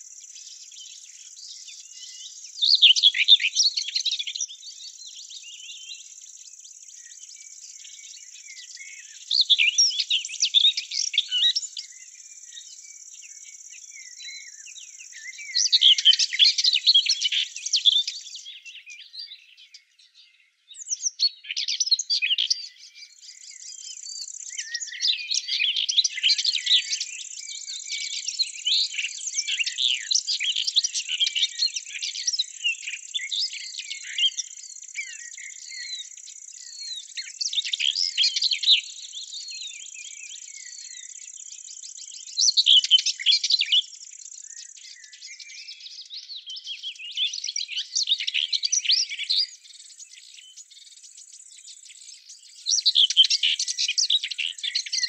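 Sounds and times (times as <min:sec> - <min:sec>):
songbirds chirping and twittering: 0:00.0 - 0:55.0.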